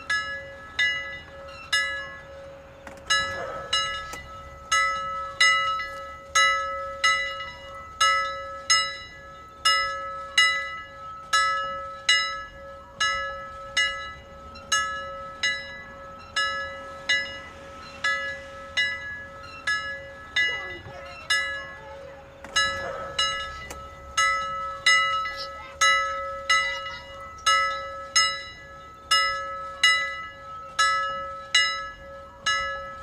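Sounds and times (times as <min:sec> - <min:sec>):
metal bell ringing: 0:00.0 - 0:33.0.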